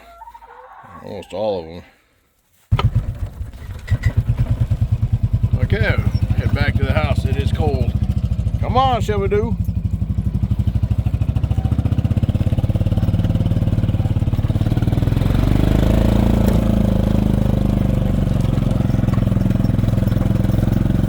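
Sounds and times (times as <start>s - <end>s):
small vehicle engine running: 2.7s - 21.0s.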